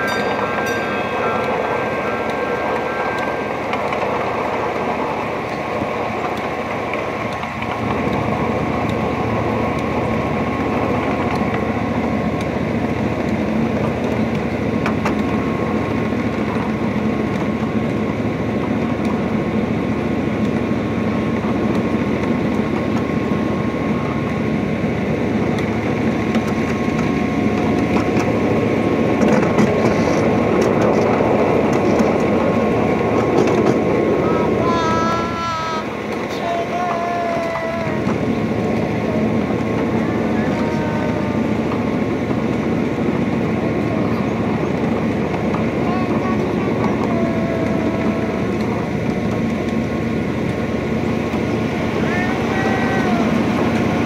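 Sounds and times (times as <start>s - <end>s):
wheels rattling on rails: 0.0s - 54.0s.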